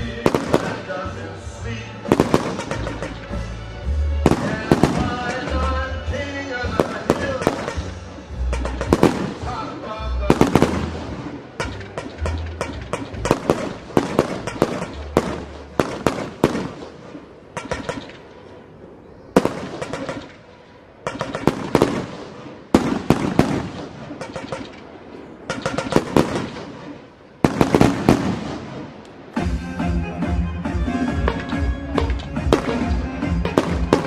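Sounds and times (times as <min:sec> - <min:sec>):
fireworks bangs and crackles: 0:00.0 - 0:03.5, 0:04.2 - 0:18.6, 0:19.3 - 0:29.6, 0:31.2 - 0:34.0.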